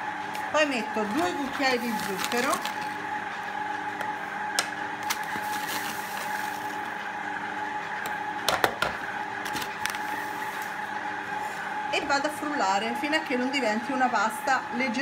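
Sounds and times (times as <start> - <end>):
stand mixer motor running: 0.0 - 15.0.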